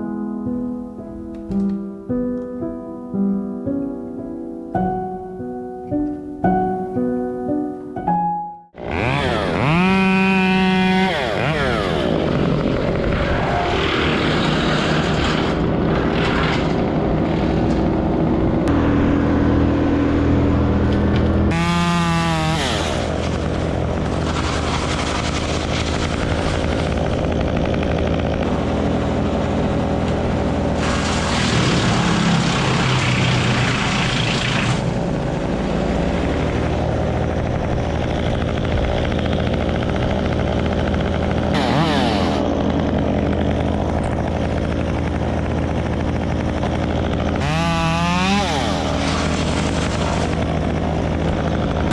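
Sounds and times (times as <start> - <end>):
engine revving: 8.8 - 51.9
small gasoline engines running: 8.8 - 51.9.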